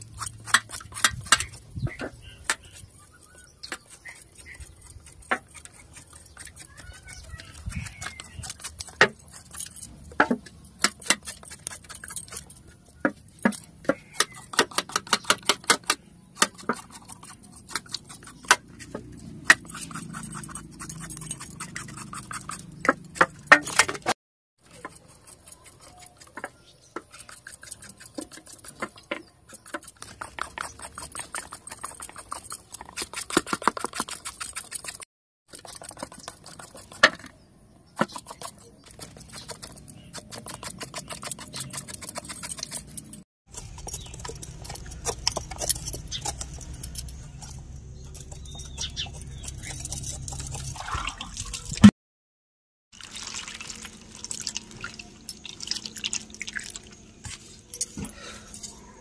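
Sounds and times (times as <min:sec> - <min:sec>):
vegetable peeler scraping: 0:00.0 - 0:37.4, 0:38.0 - 0:50.8.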